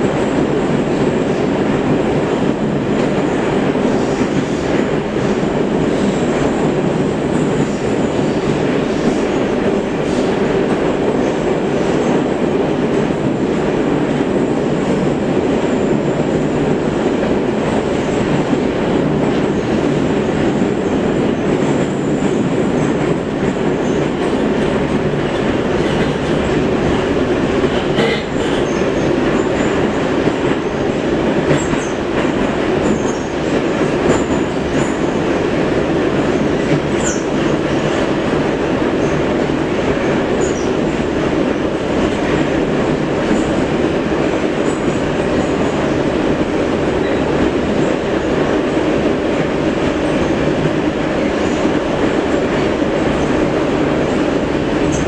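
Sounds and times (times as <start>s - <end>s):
metro train wheels rumbling: 0.0s - 55.0s.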